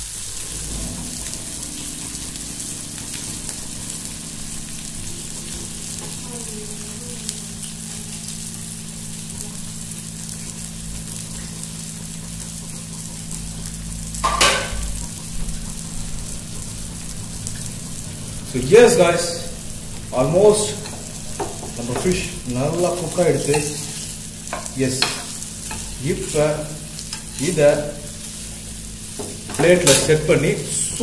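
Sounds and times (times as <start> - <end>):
fish sizzling in oil: 0.0 - 31.0
low steady hum: 0.0 - 31.0.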